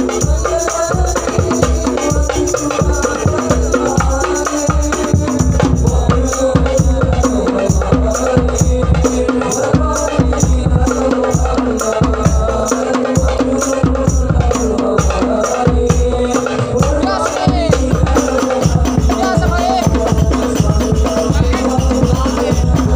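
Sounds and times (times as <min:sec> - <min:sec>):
hand percussion beat: 0:00.0 - 0:22.9
jingling percussion: 0:00.0 - 0:22.9.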